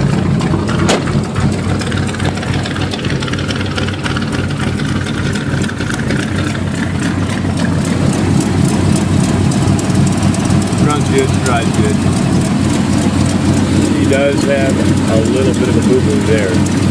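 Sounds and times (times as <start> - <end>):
truck engine idling: 0.0 - 16.9.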